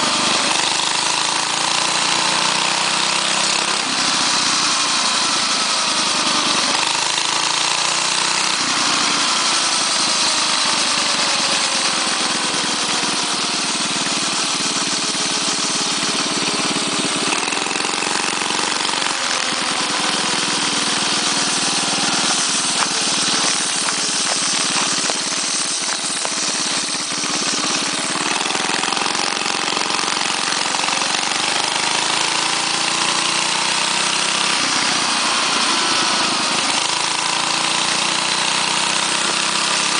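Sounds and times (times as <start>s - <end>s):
mini bike engine running under load: 0.0s - 39.9s.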